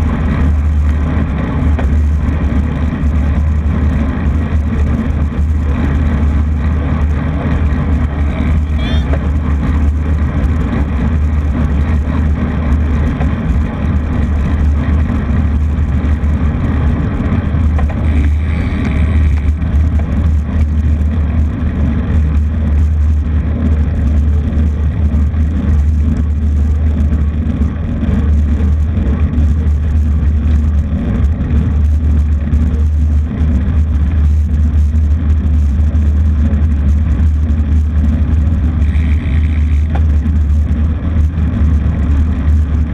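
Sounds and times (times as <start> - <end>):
vehicle and road noise: 0.0 - 42.9.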